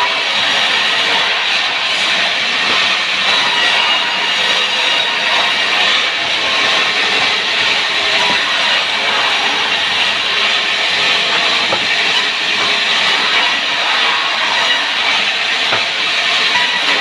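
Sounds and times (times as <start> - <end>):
power saw cutting timber: 0.0 - 17.0.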